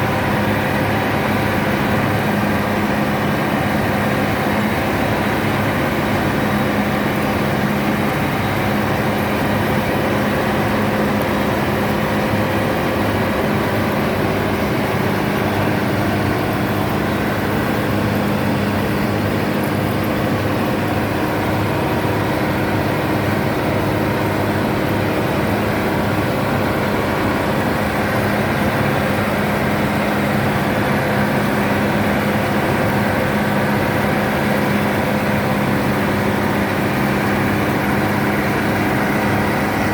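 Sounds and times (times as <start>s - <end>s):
combine harvester diesel engine humming: 0.0s - 39.9s.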